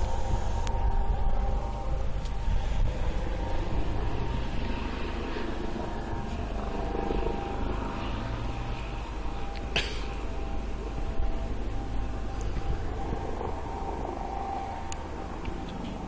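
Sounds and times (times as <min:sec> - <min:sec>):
faint hum: 0:00.0 - 0:16.0
low outdoor rumble: 0:00.0 - 0:16.0.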